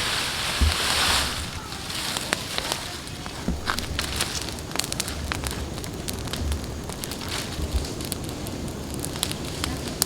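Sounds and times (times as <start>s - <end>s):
bonfire flames rushing: 0.0s - 10.0s
burning wood crackling: 0.0s - 10.0s.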